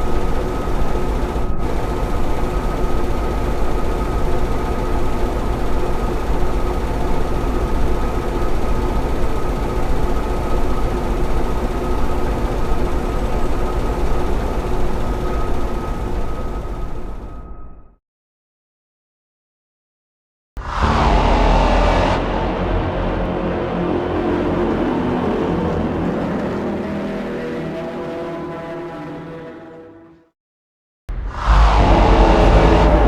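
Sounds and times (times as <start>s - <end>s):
loud mechanical drone: 0.0s - 17.6s, 20.6s - 30.1s, 31.1s - 33.0s.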